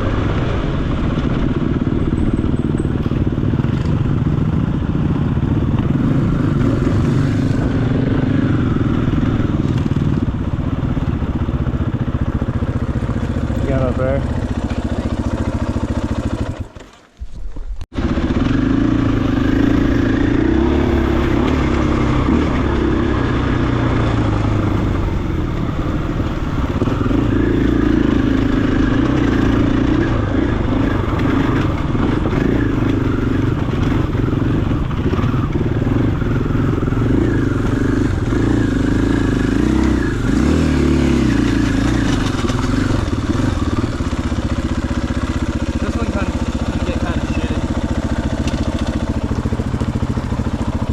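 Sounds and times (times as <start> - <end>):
dirt bike engine revving: 0.0 - 16.9, 17.9 - 50.9.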